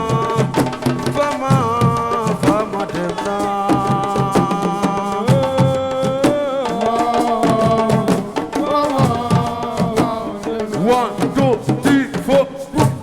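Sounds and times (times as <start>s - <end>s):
person singing long held notes: 1.2s - 12.9s.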